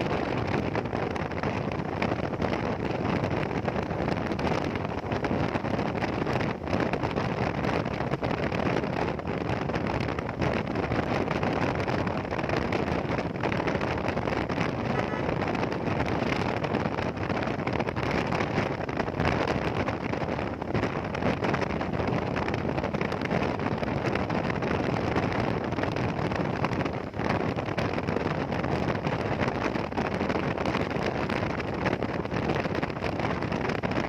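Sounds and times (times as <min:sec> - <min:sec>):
motorcycle engine and road noise: 0:00.0 - 0:34.0
wind rushing on microphone: 0:00.0 - 0:34.0.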